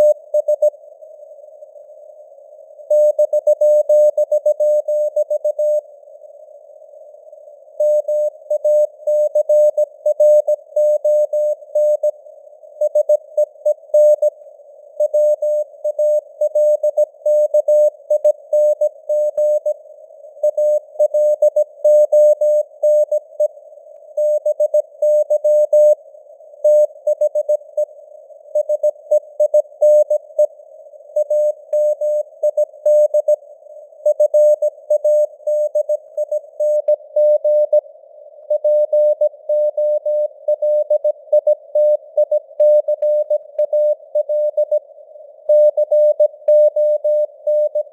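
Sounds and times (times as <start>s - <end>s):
receiver hiss: 0.0s - 47.9s.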